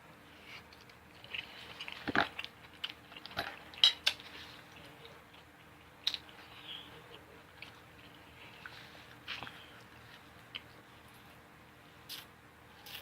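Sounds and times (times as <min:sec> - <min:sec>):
person chewing food: 0:00.4 - 0:11.4.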